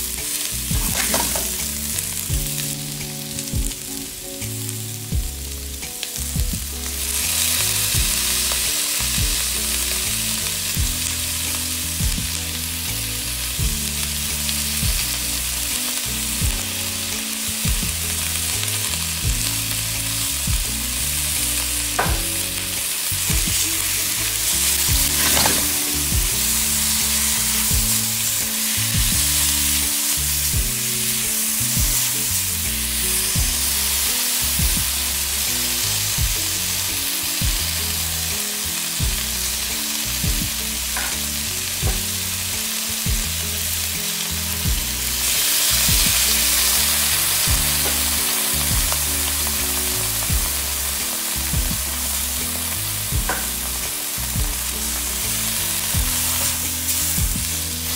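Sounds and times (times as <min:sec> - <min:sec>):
vegetables sizzling in a wok: 0:00.0 - 0:57.9.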